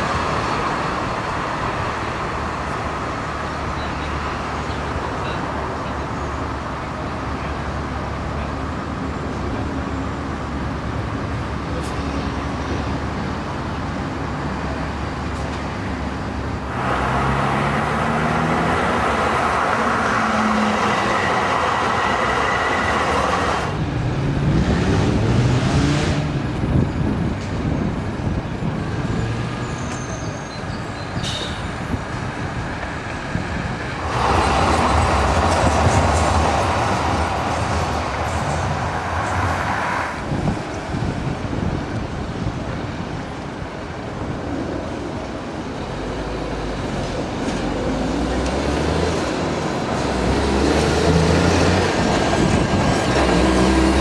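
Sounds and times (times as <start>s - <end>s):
tram passing: 0.0s - 54.0s.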